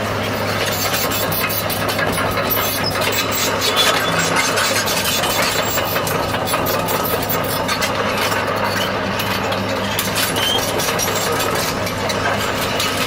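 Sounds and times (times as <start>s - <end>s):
diesel excavator engine humming: 0.0s - 13.0s.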